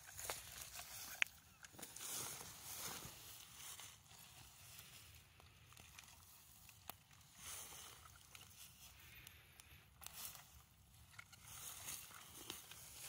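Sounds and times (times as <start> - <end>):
rake scraping dry leaves: 0.0 - 5.2, 6.1 - 9.2, 10.0 - 13.0.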